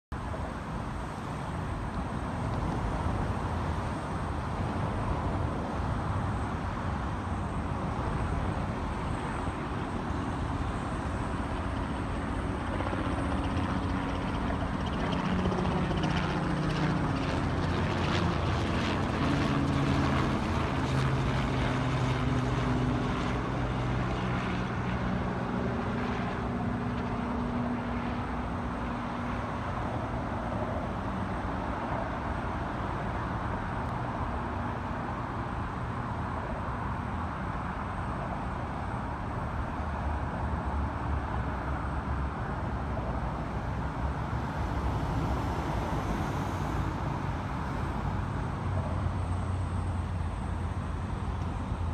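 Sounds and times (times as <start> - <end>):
helicopter engine and rotor drone: 0.1 - 51.9.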